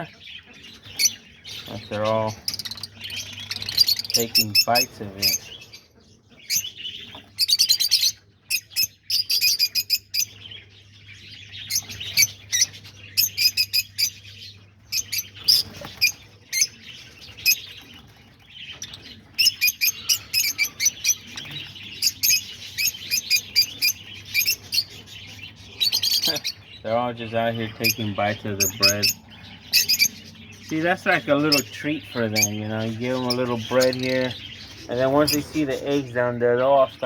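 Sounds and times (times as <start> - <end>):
lovebirds chirping: 0.0 - 37.0.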